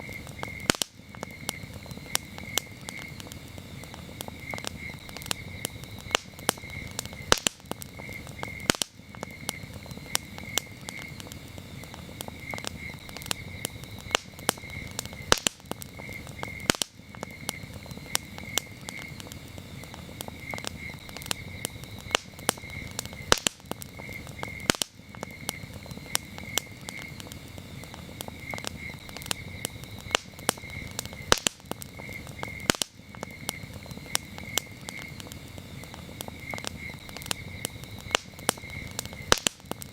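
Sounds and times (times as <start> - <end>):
campfire crackling: 0.0 - 39.9
crickets chirping: 0.0 - 39.9
wood pops: 0.1 - 39.9.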